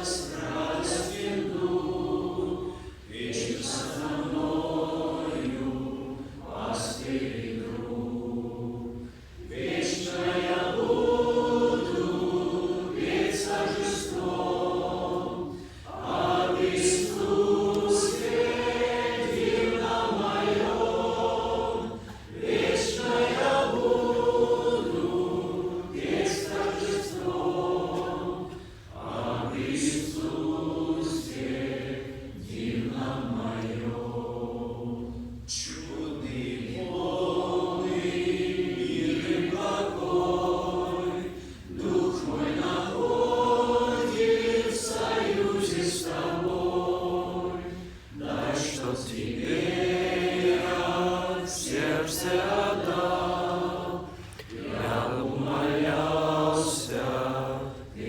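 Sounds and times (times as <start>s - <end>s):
group singing a slow hymn: 0.0s - 58.0s.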